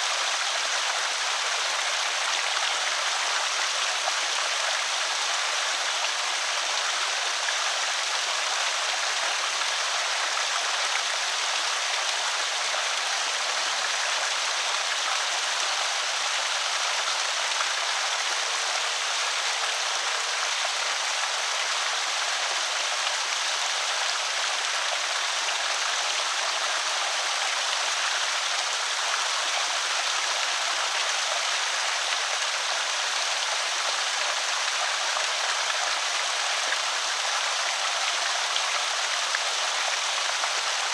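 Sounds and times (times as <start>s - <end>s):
water spilling over spillway: 0.0s - 40.9s.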